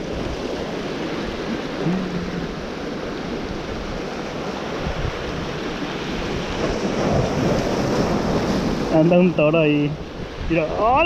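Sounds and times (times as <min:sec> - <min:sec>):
surf washing against rocks: 0:00.0 - 0:11.0
wind on microphone: 0:00.0 - 0:11.0.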